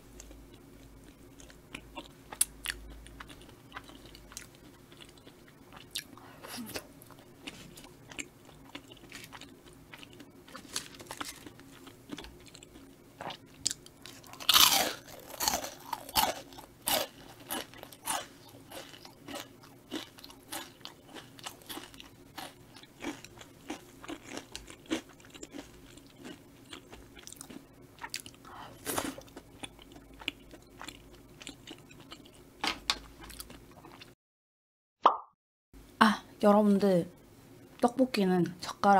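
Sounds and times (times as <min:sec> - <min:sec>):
close chewing and wet mouth sounds: 0:00.1 - 0:32.4.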